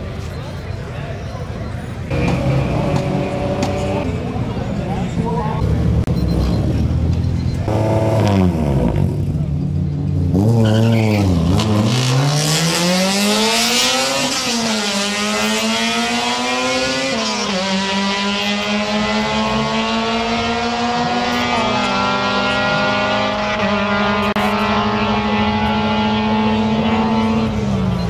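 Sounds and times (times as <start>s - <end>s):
car engine accelerating hard: 2.1s - 4.1s, 5.7s - 28.0s.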